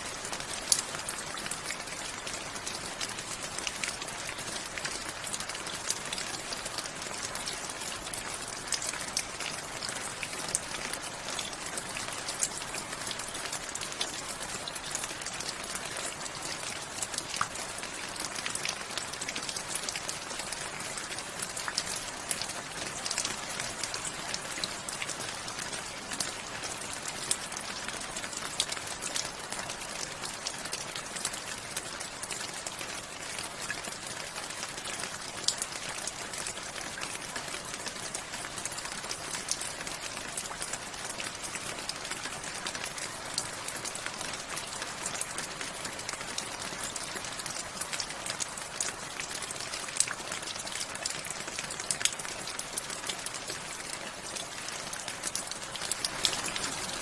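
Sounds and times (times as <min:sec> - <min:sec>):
rain falling: 0:00.0 - 0:57.0
raindrops ticking close by: 0:00.0 - 0:57.0.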